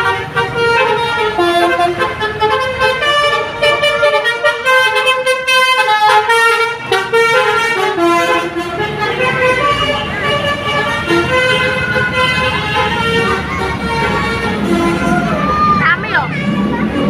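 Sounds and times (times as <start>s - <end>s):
multi-tone bus horn tune: 0.0s - 17.0s.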